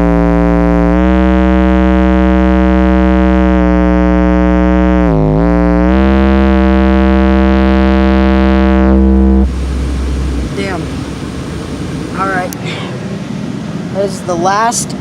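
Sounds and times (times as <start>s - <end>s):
distorted bass tone from subwoofer: 0.0s - 12.6s.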